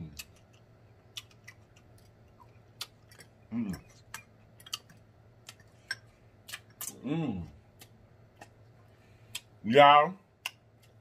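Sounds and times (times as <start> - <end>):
chewing with wet mouth clicks: 0.0 - 7.0, 7.7 - 9.5, 10.4 - 11.0
lip smacks: 0.2 - 7.0, 7.7 - 9.6, 10.4 - 11.0.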